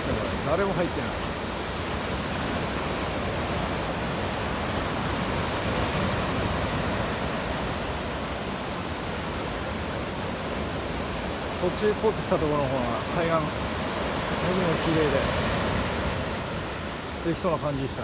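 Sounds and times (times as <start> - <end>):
rough surf roaring: 0.0 - 18.0.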